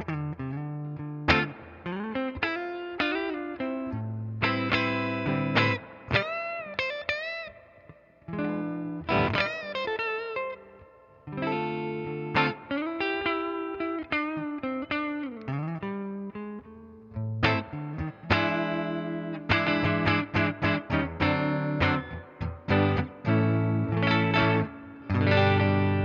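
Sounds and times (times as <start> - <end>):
clean electric guitar playing: 0.0 - 26.0.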